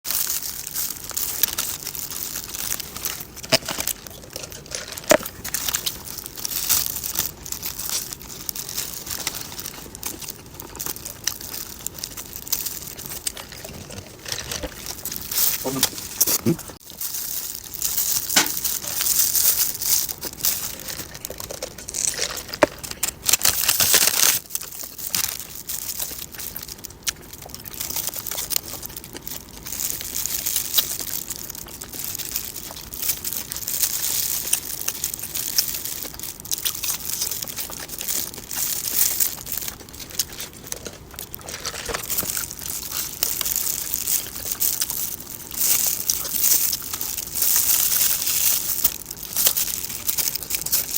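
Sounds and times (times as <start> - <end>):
hamburger wrapper crinkling: 0.0 - 50.9.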